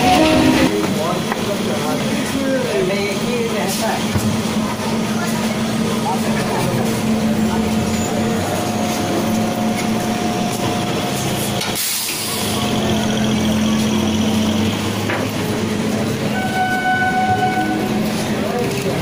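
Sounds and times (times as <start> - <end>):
electric train hum and rumble: 0.0 - 19.0.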